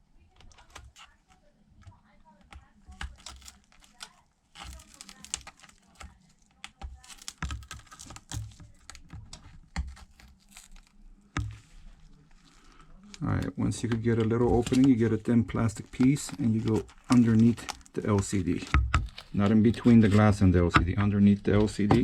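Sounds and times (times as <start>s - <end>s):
glass crackling and tearing: 0.4s - 1.2s, 2.6s - 22.0s.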